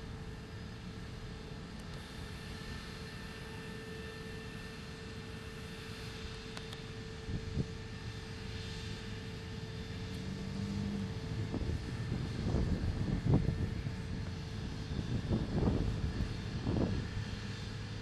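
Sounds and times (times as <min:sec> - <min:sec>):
crane engine running: 0:00.0 - 0:18.0.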